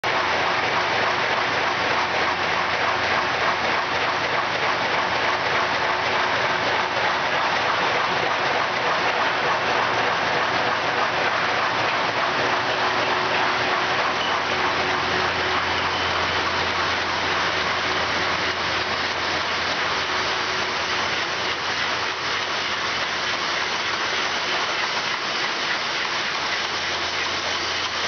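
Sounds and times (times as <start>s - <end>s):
machinery hiss and rattle: 0.1s - 28.0s.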